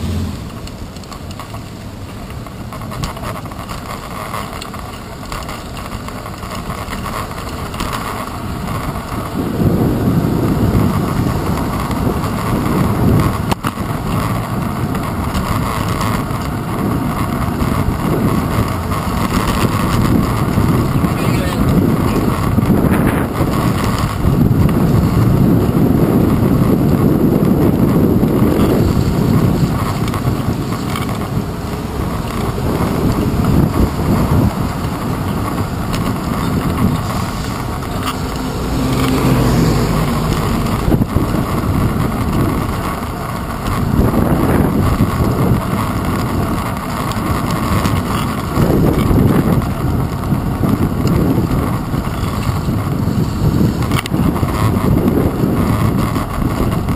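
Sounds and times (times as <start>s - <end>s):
city traffic: 0.0s - 56.9s
road noise: 0.0s - 56.9s
wind buffeting microphone: 0.0s - 56.9s.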